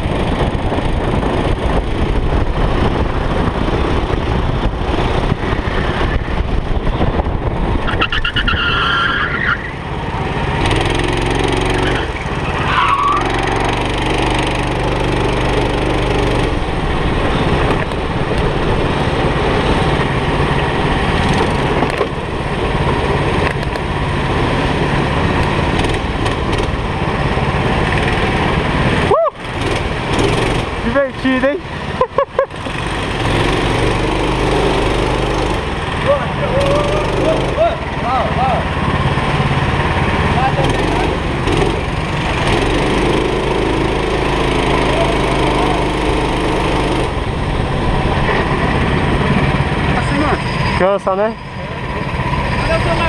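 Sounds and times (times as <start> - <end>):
go-kart engine running hard: 0.0 - 8.5, 9.3 - 53.0.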